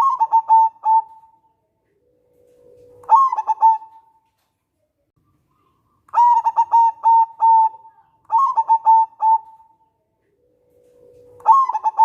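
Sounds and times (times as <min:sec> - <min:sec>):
dove cooing: 0:00.0 - 0:04.2, 0:05.6 - 0:12.0.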